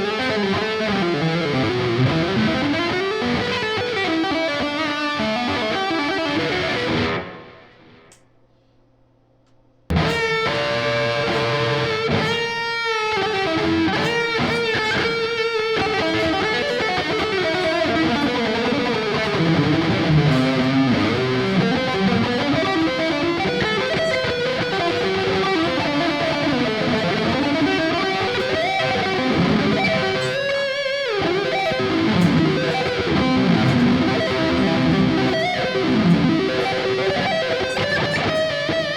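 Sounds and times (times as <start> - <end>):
electric guitar riff: 0.0 - 8.2, 9.9 - 38.9.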